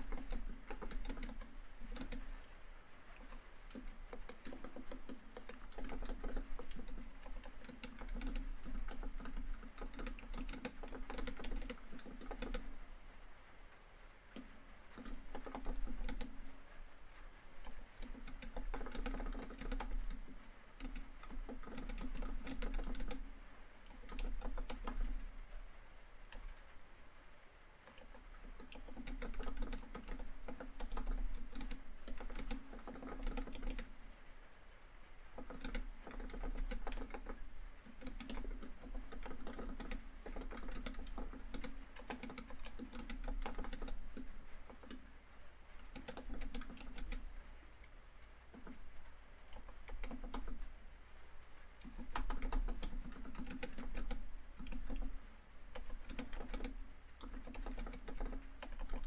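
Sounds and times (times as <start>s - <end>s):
laptop keyboard typing: 0.0s - 12.9s, 14.3s - 26.8s, 27.8s - 34.1s, 35.3s - 50.9s, 51.6s - 59.0s.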